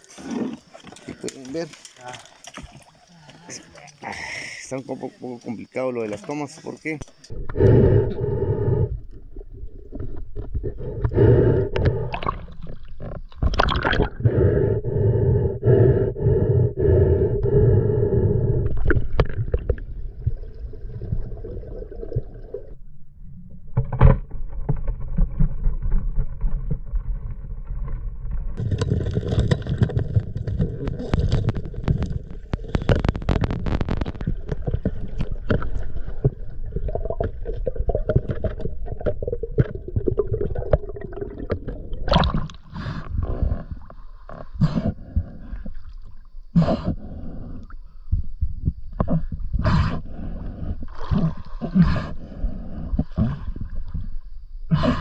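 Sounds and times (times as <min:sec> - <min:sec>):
water gurgling and sloshing: 0:00.0 - 0:04.0, 0:05.6 - 0:55.0.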